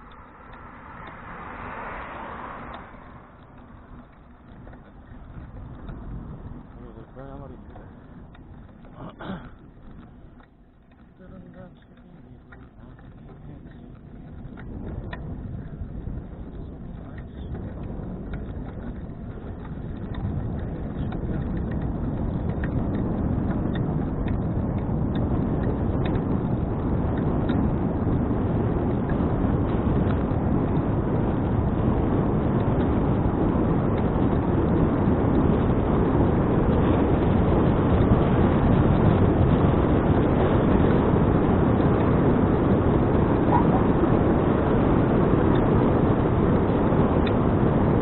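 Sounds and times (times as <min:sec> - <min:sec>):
wind roaring over microphone: 0:00.0 - 0:48.0.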